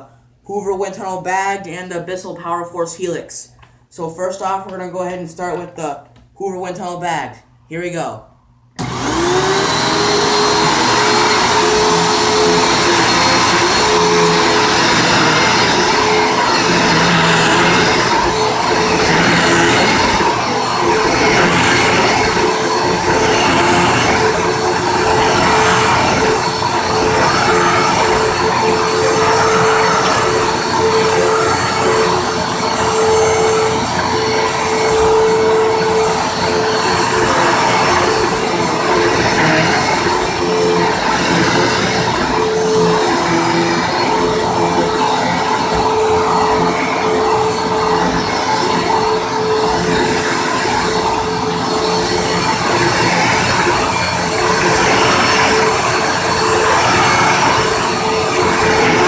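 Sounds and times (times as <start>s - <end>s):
vacuum cleaner running: 8.8s - 59.0s.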